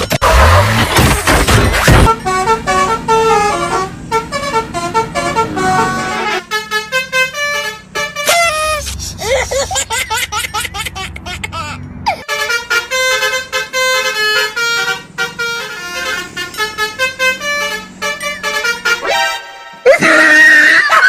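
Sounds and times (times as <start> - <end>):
bus engine rumble: 0.0 - 19.1
multi-tone bus horn melody: 0.3 - 9.2, 11.4 - 20.1.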